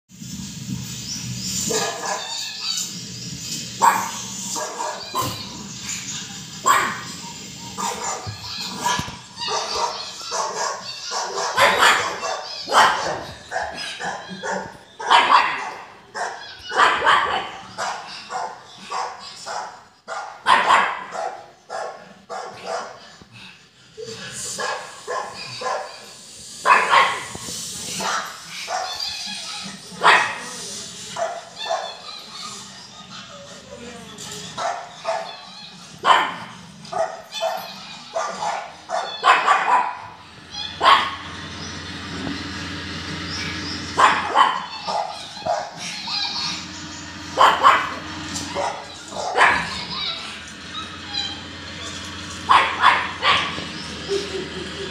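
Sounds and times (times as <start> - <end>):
dog barking: 1.6 - 2.8, 3.8 - 23.1, 24.5 - 32.5, 34.5 - 41.3, 43.3 - 46.6, 47.3 - 53.8.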